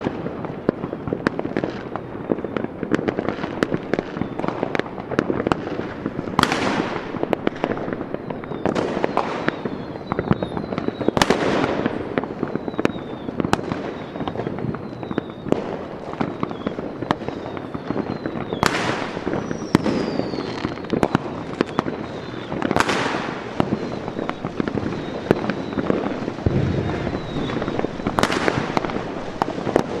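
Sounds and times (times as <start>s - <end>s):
firecrackers crackling: 0.0s - 30.0s
firework whistles: 0.0s - 30.0s
firework bursts hissing: 2.5s - 30.0s.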